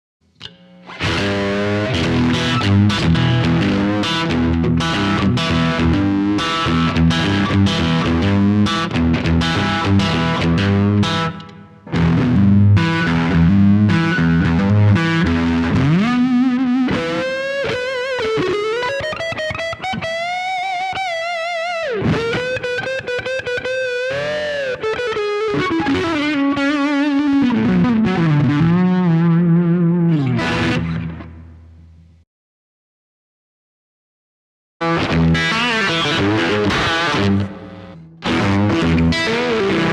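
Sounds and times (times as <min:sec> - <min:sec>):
overdriven electric guitar: 0:00.3 - 0:32.2, 0:34.8 - 0:39.9.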